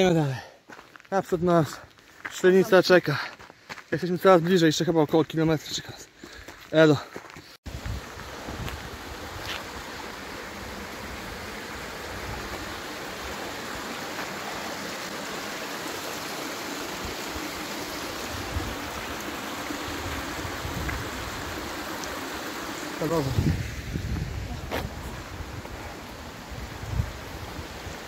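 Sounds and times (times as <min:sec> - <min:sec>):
mountain stream rushing: 0:04.0 - 0:28.0.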